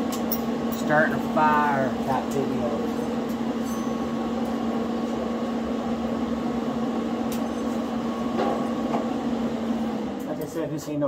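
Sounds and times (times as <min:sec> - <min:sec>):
welder electrical hum: 0:00.0 - 0:11.0.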